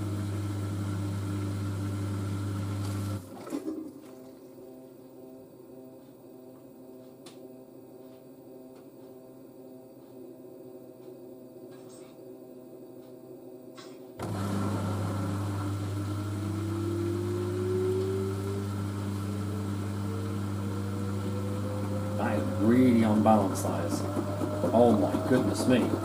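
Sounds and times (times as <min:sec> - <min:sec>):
washing machine motor whining: 0:00.0 - 0:11.7, 0:14.2 - 0:26.0.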